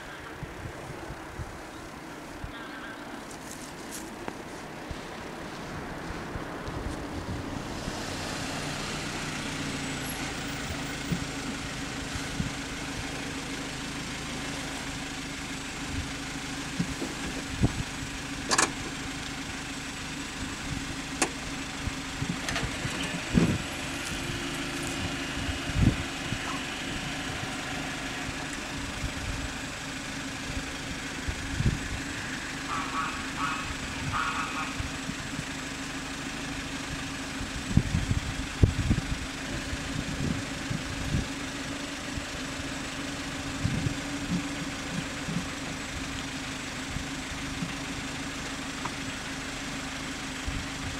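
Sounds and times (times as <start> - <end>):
low engine hum: 0.0 - 50.9.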